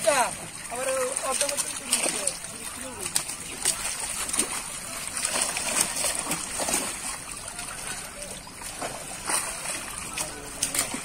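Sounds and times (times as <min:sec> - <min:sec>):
fish splashing in a net: 0:00.0 - 0:11.0
moving water: 0:00.0 - 0:11.0.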